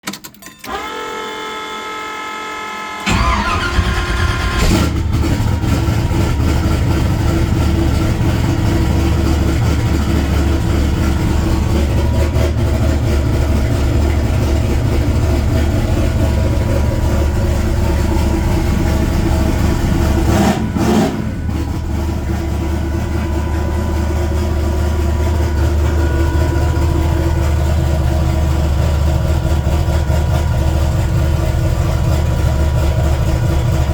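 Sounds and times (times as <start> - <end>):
starter whine: 0.4 - 33.9
car engine idling: 3.0 - 33.9.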